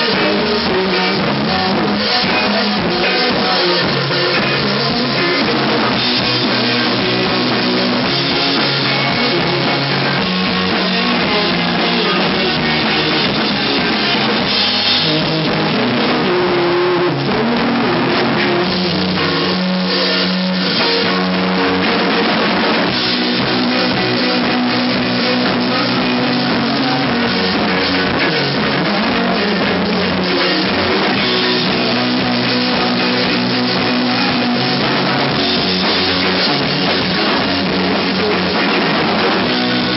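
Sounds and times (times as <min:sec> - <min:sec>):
amplified electric guitars: 0:00.0 - 0:39.9
drum kit with cymbals: 0:00.0 - 0:39.9
live rock band playing: 0:00.0 - 0:39.9.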